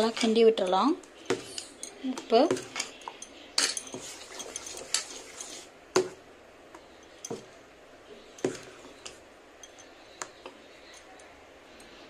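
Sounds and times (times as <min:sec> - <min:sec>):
spoon stirring batter: 0:00.0 - 0:12.0.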